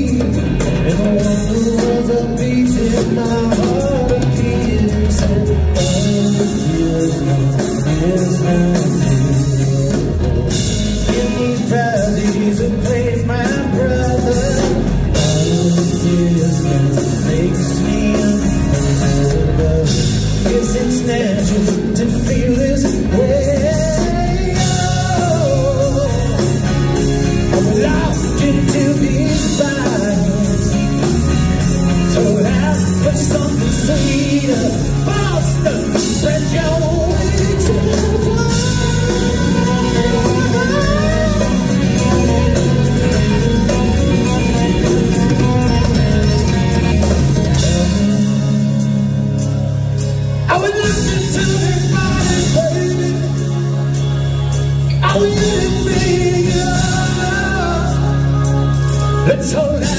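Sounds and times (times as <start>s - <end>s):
live rock band: 0.0s - 59.9s
person singing lead vocal: 0.0s - 59.9s.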